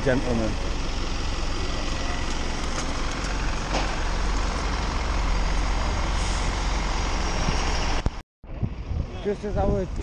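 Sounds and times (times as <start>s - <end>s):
buses and cars passing: 0.0s - 10.0s
constant low rumble: 0.0s - 10.0s.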